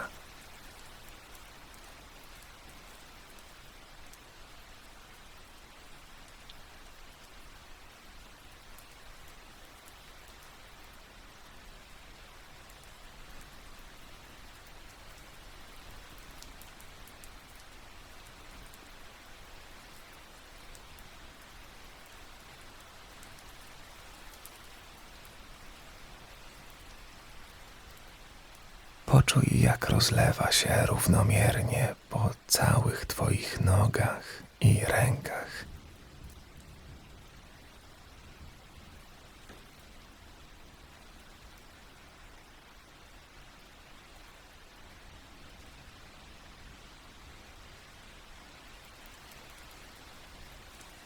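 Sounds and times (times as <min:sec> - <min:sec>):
soft steady rain: 0:00.0 - 0:51.0.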